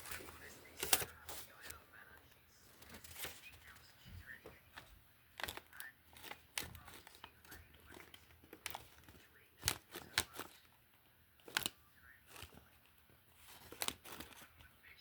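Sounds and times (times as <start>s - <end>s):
cardboard crinkling and scraping: 0.0s - 1.8s, 2.6s - 10.8s, 11.4s - 14.8s.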